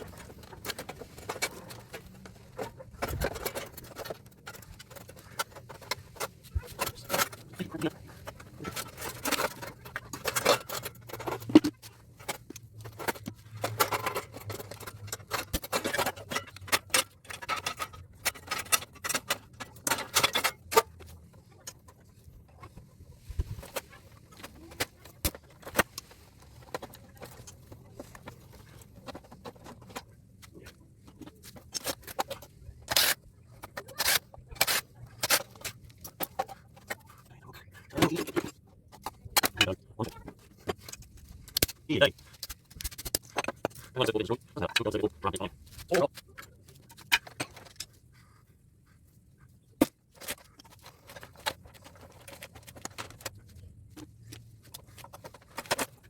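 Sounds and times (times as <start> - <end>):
metal tools clinking and scraping: 0.0 - 48.4.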